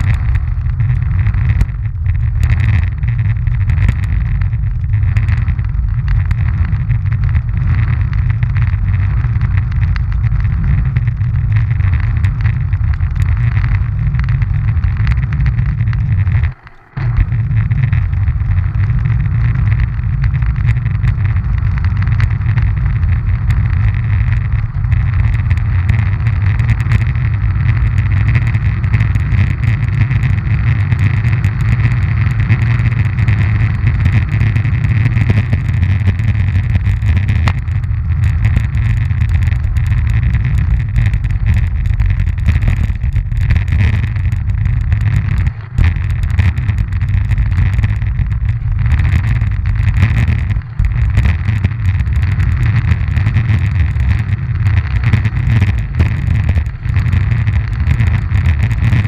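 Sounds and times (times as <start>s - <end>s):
roller-ski wheels rumbling on asphalt: 0.0s - 59.0s.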